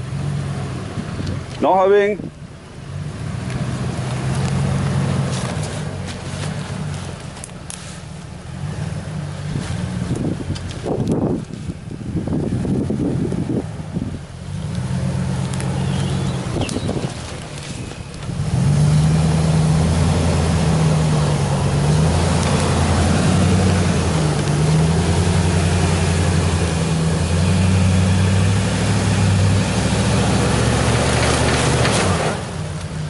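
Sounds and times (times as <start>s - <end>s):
truck engine under load: 0.0s - 33.0s.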